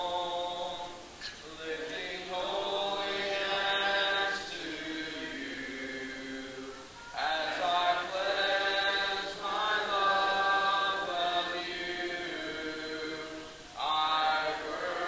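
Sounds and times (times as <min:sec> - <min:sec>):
voices singing a cappella hymn: 0:00.0 - 0:15.0.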